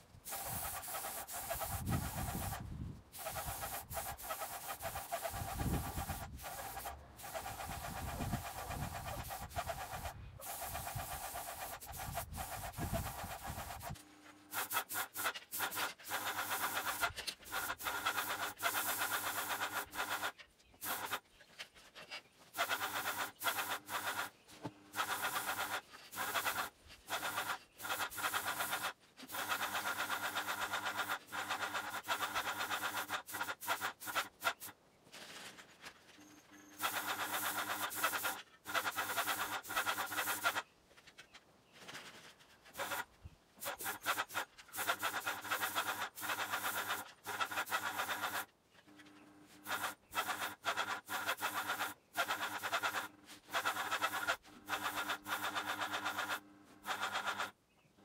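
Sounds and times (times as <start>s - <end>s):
paint sprayer hissing: 0.0s - 34.8s, 36.7s - 40.7s, 42.7s - 48.5s, 49.1s - 57.6s.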